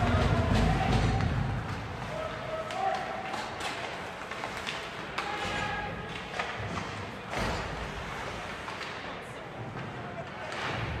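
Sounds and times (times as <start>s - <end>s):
hockey sticks and puck knocks: 0.0s - 11.0s.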